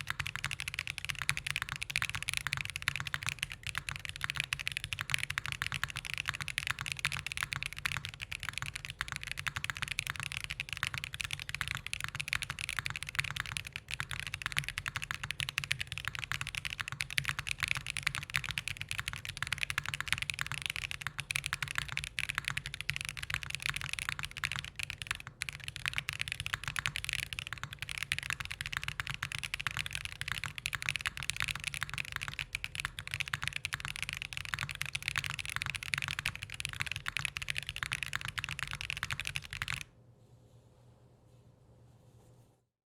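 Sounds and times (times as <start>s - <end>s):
rapid typing on mechanical keyboard: 0.0s - 39.9s.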